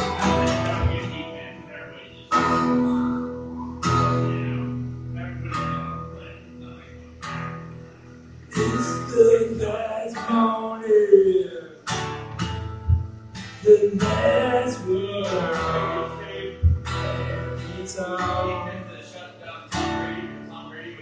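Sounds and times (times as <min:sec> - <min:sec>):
man singing: 0:00.0 - 0:07.0, 0:08.5 - 0:11.9, 0:13.6 - 0:21.0
acoustic guitar strumming: 0:00.0 - 0:21.0.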